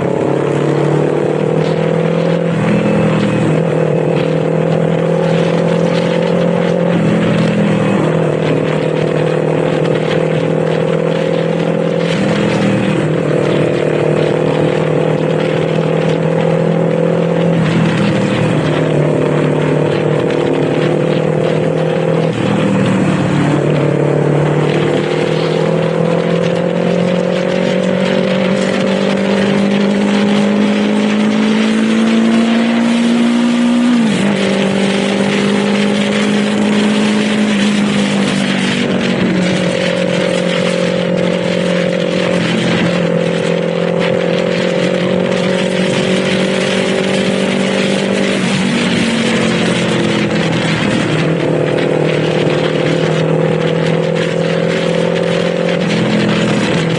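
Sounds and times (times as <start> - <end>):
motorcycle engine running: 0.0 - 56.9
wind and road rush: 0.0 - 56.9.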